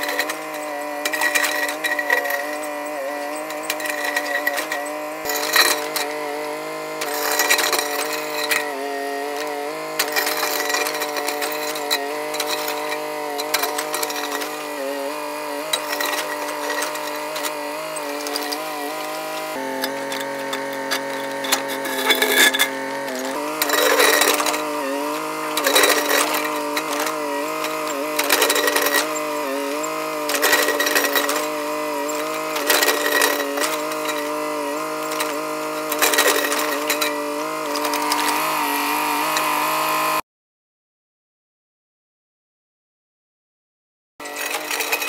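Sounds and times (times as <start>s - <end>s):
bucket scraping soil: 0.0s - 40.1s, 44.2s - 45.0s
excavator diesel engine: 0.0s - 40.2s.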